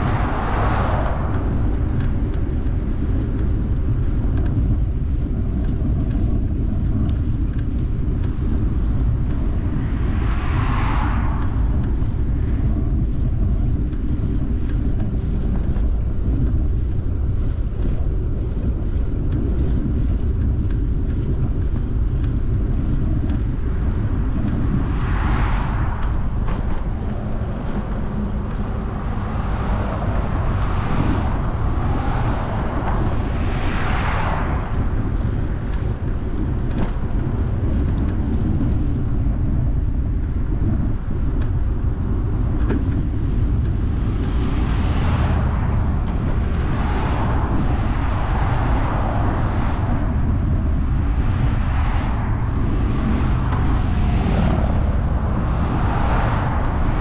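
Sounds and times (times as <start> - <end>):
passing traffic: 0.0 - 57.0
wind rumble on microphone: 0.0 - 57.0.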